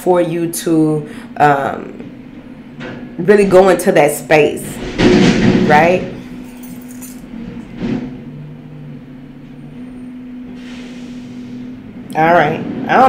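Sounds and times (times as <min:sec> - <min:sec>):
heavy vehicle engine droning: 0:00.0 - 0:13.0.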